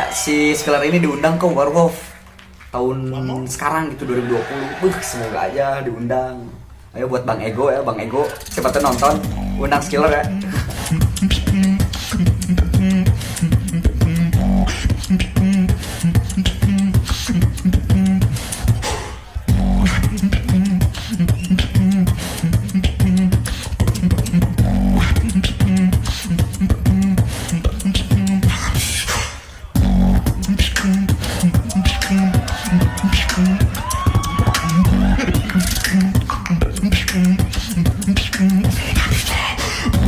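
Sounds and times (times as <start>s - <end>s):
beatboxing: 2.8s - 5.9s, 8.1s - 40.0s.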